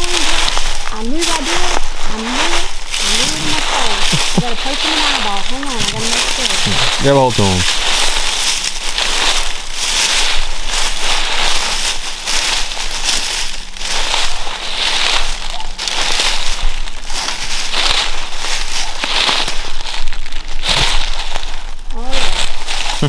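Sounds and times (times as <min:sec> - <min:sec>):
footsteps crunching through dry leaves: 0:00.0 - 0:23.0.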